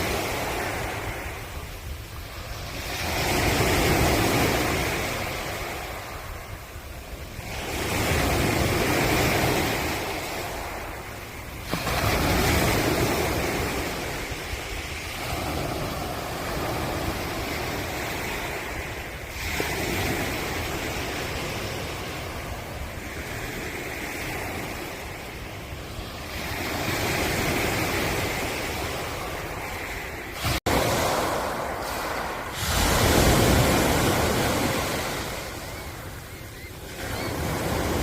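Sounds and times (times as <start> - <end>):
ocean waves breaking: 0.0 - 38.0.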